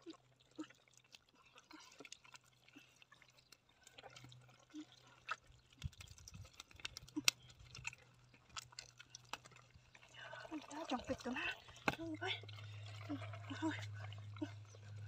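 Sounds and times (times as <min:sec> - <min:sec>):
clicks and crackles of grit: 0:00.0 - 0:15.0
wet mud squelching: 0:00.0 - 0:15.0.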